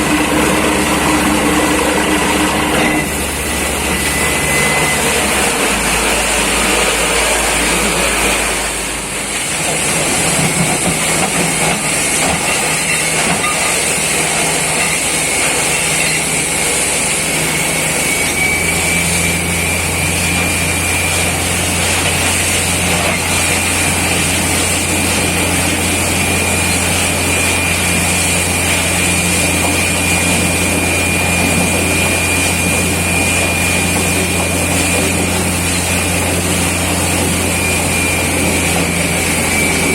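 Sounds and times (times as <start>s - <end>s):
drilling rig running: 0.0s - 39.9s
thin high whine: 0.0s - 39.9s
hiss: 4.3s - 39.9s.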